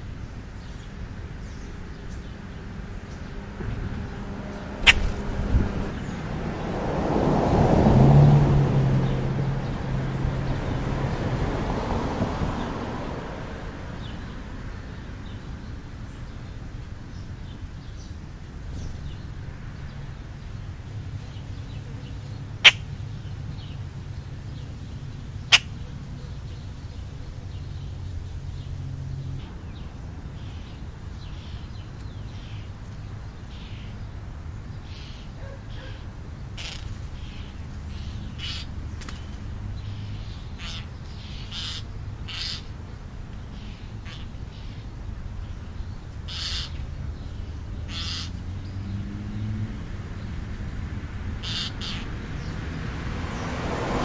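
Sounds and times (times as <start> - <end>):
small birds chirping: 0.0 - 6.3, 14.0 - 54.0
low traffic hum: 0.0 - 54.0
vehicle passing: 1.4 - 16.2, 18.6 - 54.0.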